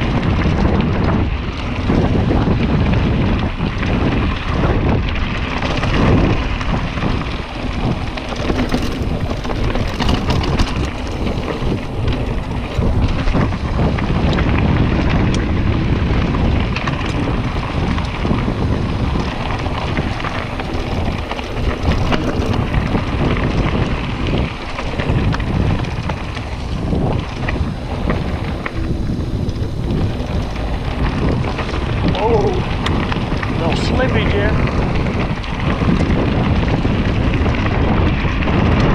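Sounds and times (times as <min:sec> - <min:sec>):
bike rattling and knocking: 0:00.0 - 0:38.9
tyres crackling over dirt: 0:00.0 - 0:38.9
wind buffeting microphone: 0:00.0 - 0:38.9.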